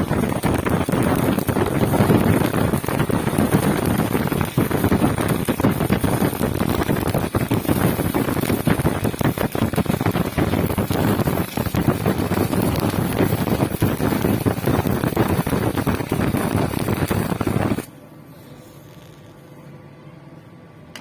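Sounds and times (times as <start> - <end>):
welding arc crackling: 0.0 - 17.9.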